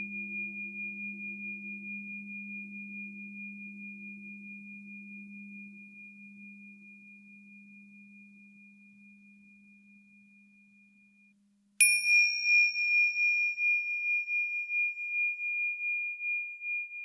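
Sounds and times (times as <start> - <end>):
crystal singing bowl ringing: 0.0 - 17.0.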